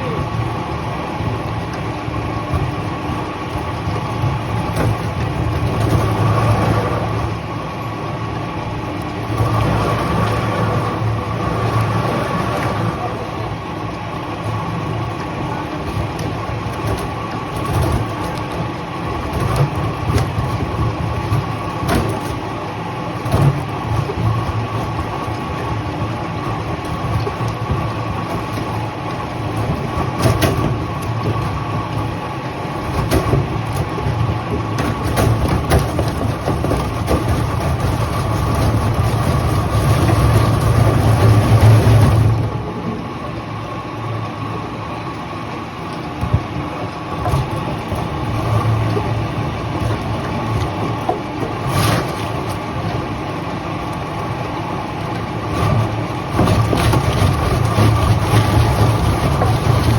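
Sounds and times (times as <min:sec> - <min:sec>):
sawmill machinery drone and whine: 0:00.0 - 0:59.9.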